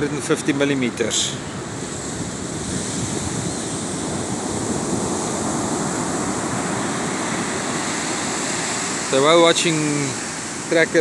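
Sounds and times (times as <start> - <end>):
surf breaking on beach: 1.6 - 11.0.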